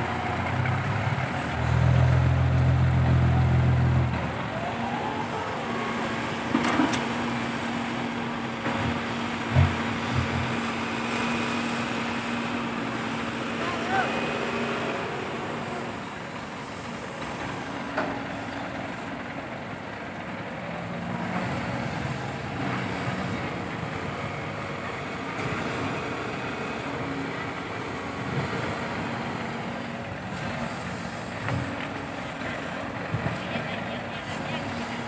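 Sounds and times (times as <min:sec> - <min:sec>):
diesel engines running: 0:00.0 - 0:35.0.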